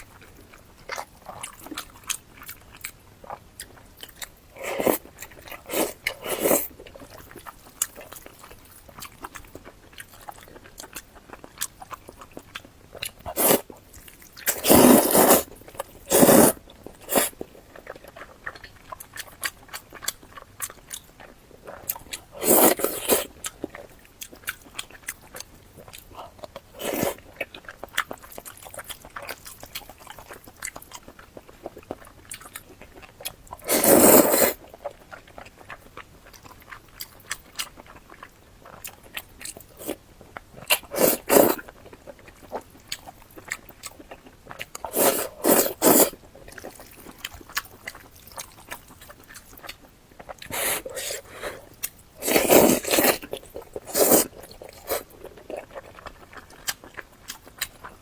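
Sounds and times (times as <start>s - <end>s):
chewing with wet mouth clicks: 0.0s - 58.0s.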